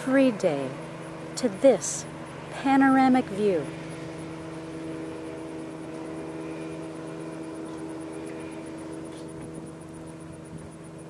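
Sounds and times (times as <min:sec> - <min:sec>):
faint high-pitched pulsing: 0:00.0 - 0:11.0
motorboat engine hum: 0:00.0 - 0:11.0.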